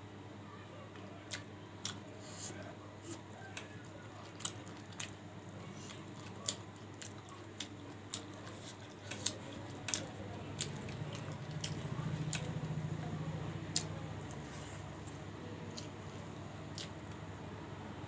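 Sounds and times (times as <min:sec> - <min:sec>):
low steady hum: 0:00.0 - 0:18.0
person chewing food: 0:01.3 - 0:17.3.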